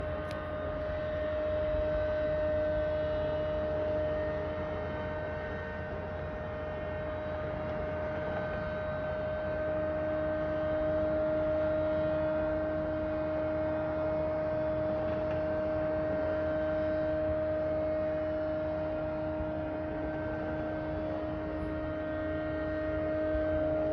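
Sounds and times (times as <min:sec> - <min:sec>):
loud droning hum: 0:00.0 - 0:23.9.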